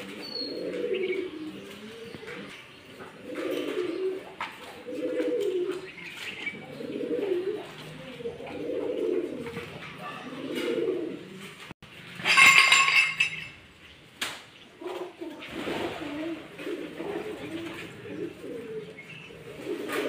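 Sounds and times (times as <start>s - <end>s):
bird cooing murmurs: 0.0s - 11.7s, 14.8s - 20.0s.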